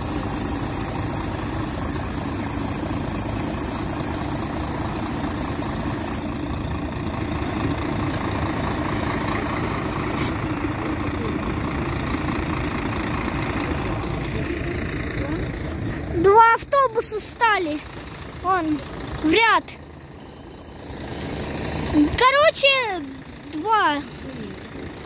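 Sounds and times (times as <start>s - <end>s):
bus diesel engine idling: 0.0s - 25.0s.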